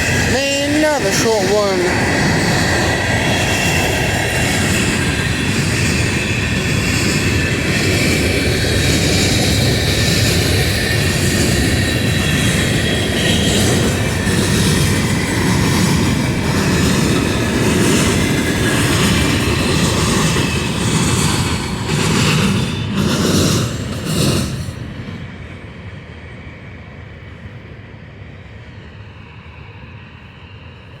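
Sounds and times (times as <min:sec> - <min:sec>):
train wheels rumbling on rails: 0:00.0 - 0:25.7.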